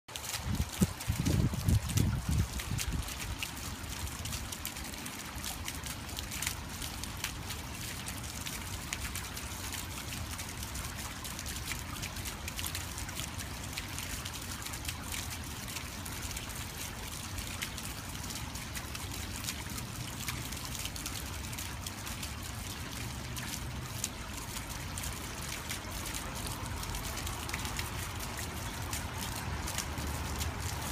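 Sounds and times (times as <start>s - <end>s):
fountain water splashing: 0.1s - 30.9s.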